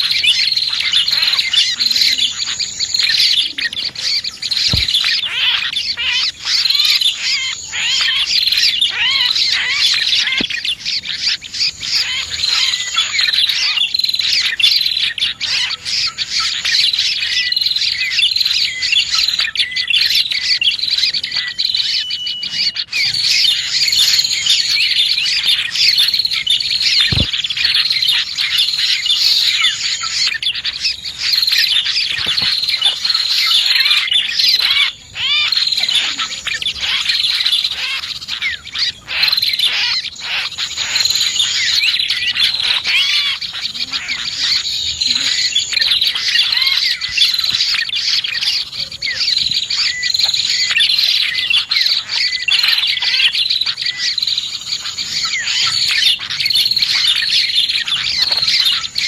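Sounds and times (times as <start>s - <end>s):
high even bird trill: 0.0s - 59.0s
small birds chirping and warbling: 0.0s - 59.0s.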